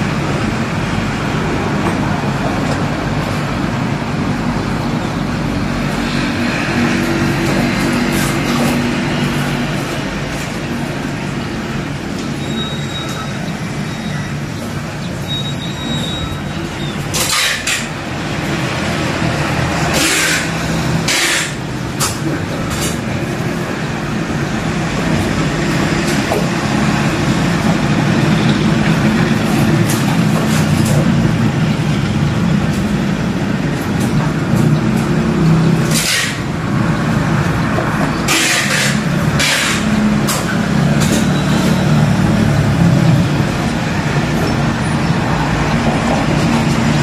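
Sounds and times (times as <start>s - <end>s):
vehicle engine humming: 0.0s - 47.0s.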